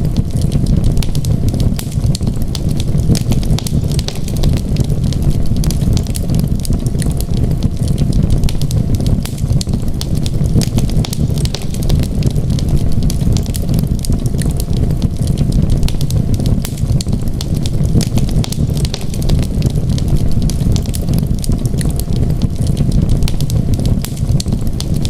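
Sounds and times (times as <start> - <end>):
fire popping: 0.0 - 25.0
low rumble: 0.0 - 25.0
wood fire crackling: 0.0 - 25.0.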